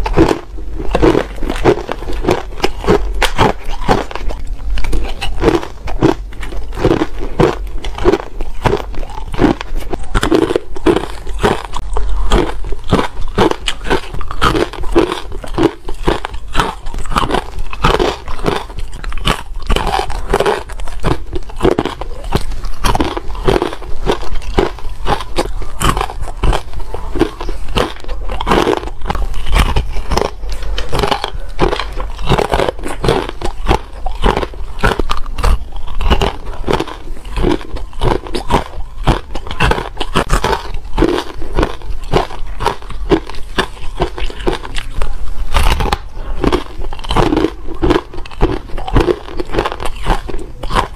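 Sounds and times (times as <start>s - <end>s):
chewing ice crunches: 0.0s - 50.9s.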